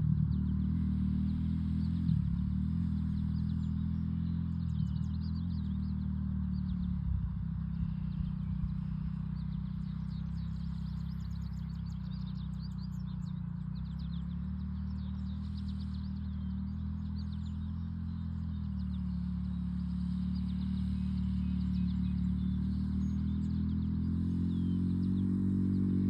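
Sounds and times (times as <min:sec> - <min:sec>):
birds chirping: 0:00.0 - 0:26.0
dirt bike engine idling: 0:00.0 - 0:26.0.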